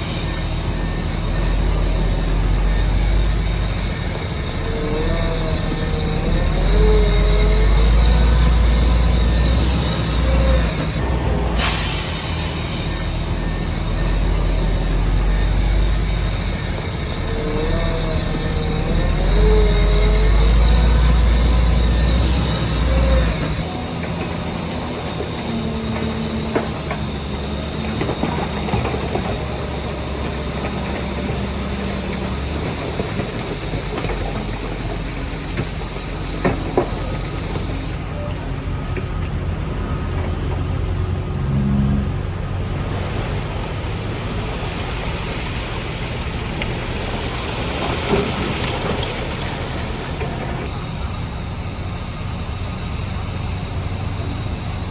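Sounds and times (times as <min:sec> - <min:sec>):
diesel earthmoving machinery running: 0:00.0 - 0:54.9.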